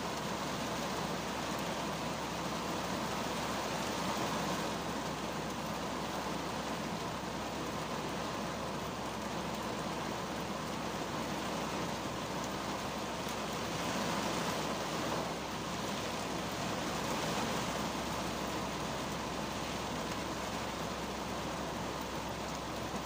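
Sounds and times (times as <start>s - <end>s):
heavy rain on car roof: 0.0s - 23.0s.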